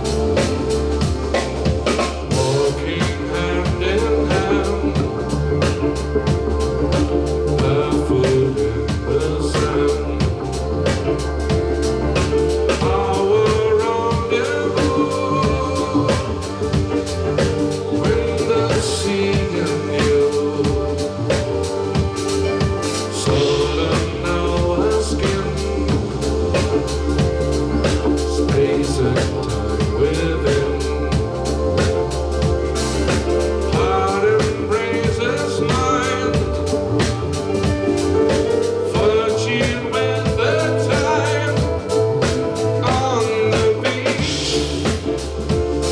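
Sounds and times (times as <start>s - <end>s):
drum kit beat: 0.0s - 45.9s
live band playing: 0.0s - 45.9s.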